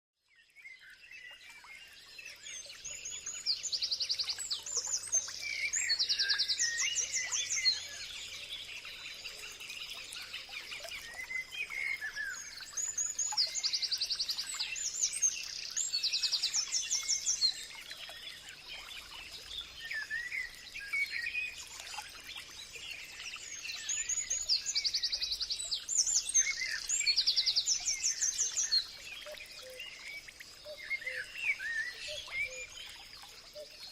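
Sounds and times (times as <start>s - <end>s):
songbirds trilling and chirping: 0.4s - 33.9s.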